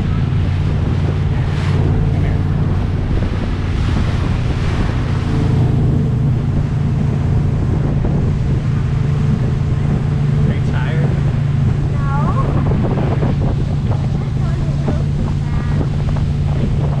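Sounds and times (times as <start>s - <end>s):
motorboat engine drone: 0.0s - 17.0s
rushing water: 0.0s - 17.0s
wind buffeting microphone: 0.0s - 17.0s.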